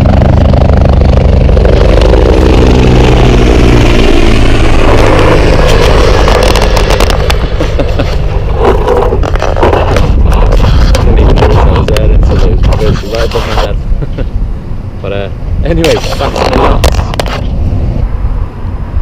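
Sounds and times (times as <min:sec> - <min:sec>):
helicopter rotor throb: 0:00.0 - 0:18.8.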